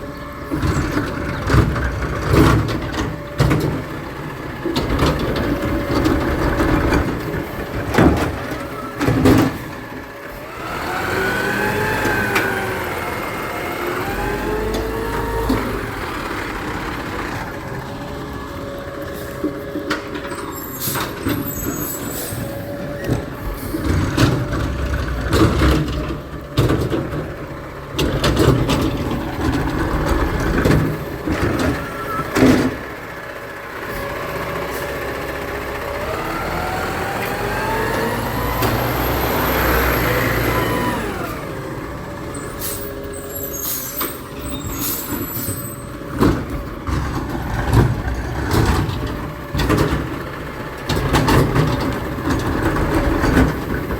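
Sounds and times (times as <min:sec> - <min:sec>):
garbage truck clanks and knocks: 0:00.0 - 0:53.9
truck engine revving: 0:00.4 - 0:53.9.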